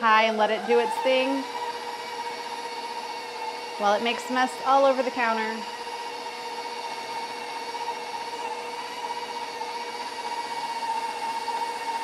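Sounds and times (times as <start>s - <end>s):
stand mixer motor whine: 0.0s - 12.0s.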